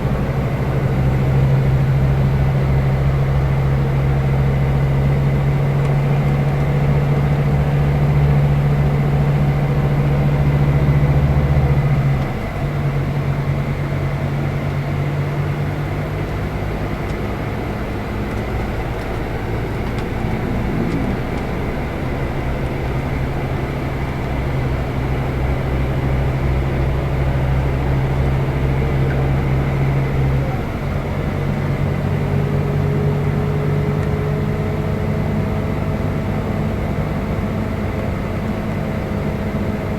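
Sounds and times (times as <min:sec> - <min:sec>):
coach engine droning: 0:00.0 - 0:39.9.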